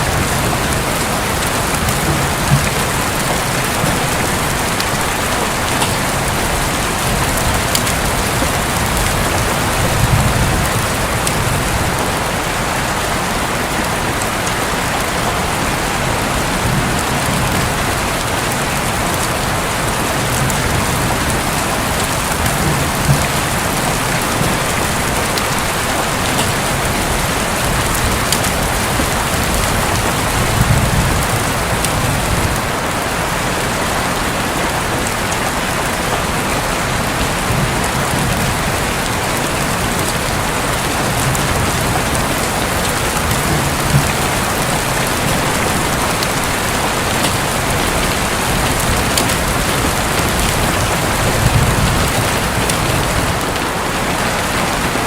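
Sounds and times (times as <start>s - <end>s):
thunder rumbling: 0.0s - 32.8s, 36.8s - 54.8s
heavy rain on a roof: 0.0s - 55.0s.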